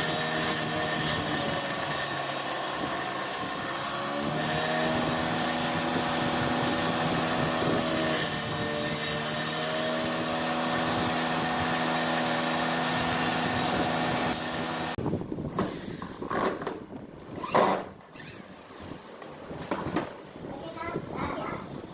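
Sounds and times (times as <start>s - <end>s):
electric drill motor whining: 0.0s - 19.1s.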